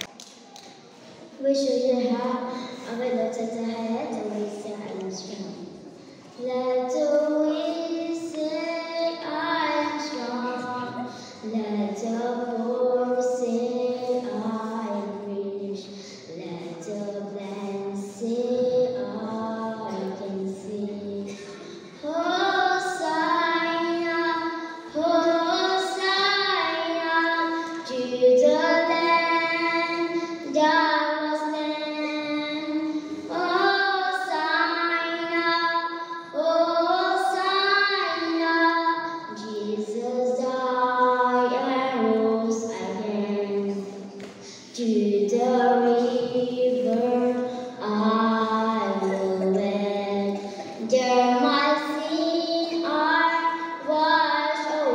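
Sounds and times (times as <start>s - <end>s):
girl singing into a microphone: 1.1s - 54.9s.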